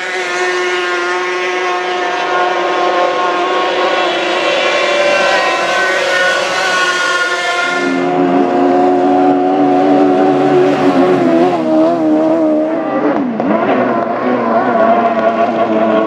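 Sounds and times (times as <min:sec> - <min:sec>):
outboard engine at high revs: 0:00.0 - 0:16.0.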